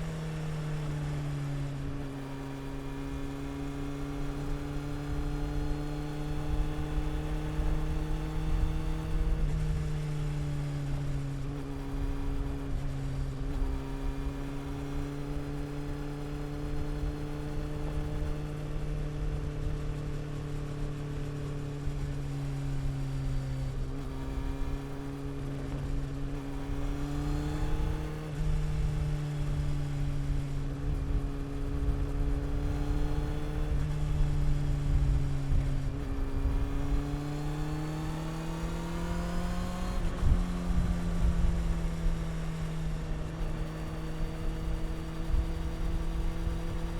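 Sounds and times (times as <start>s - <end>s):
motorcycle engine and exhaust: 0.0s - 46.9s
wind and road rumble: 0.0s - 46.9s.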